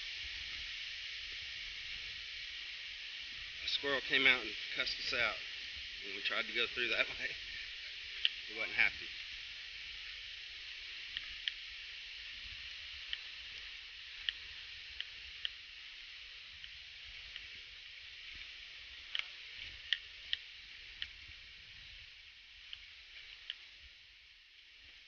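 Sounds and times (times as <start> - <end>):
high forest hiss: 0.0 - 25.0.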